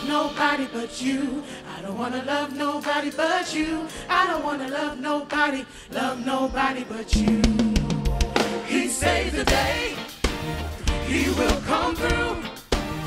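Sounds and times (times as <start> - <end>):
choir singing a cappella: 0.0 - 13.0.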